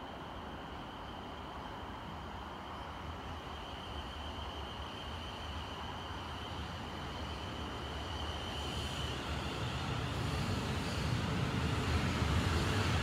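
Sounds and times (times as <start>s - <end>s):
train wheels rumbling on rail: 0.3s - 13.0s.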